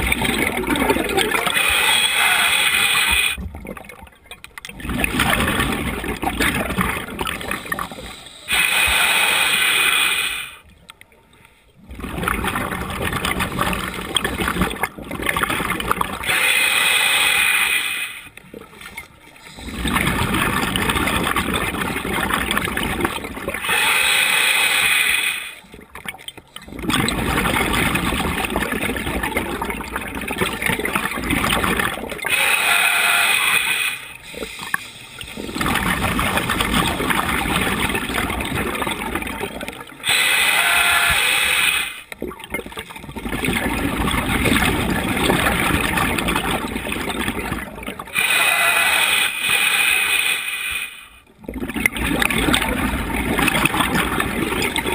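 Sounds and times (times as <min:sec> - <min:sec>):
exhaled bubbles rushing: 0:00.0 - 0:10.5, 0:11.8 - 0:16.4, 0:18.4 - 0:23.8, 0:25.0 - 0:49.6, 0:51.3 - 0:54.9.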